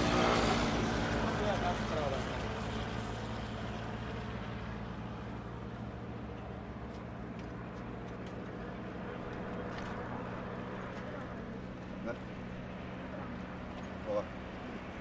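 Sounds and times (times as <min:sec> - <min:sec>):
scooter and vehicle engines: 0:00.0 - 0:15.0.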